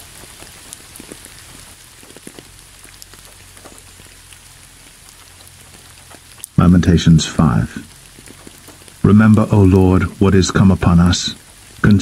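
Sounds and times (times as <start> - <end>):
light rain: 0.0 - 12.0
raindrops ticking: 0.0 - 12.0.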